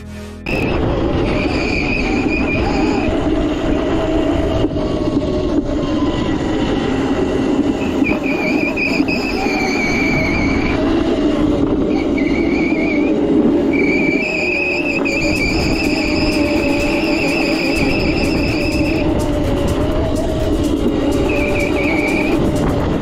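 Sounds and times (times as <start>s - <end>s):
hard wheels rumbling on pavement: 0.4s - 23.0s
electric motor whine: 0.5s - 23.0s.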